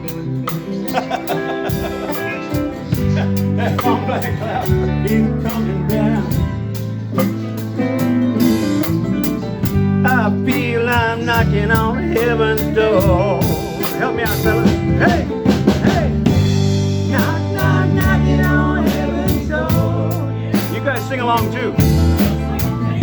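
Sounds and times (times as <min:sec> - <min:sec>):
lead melody with bending notes: 0:00.0 - 0:23.0
live band playing blues-rock: 0:00.0 - 0:23.0.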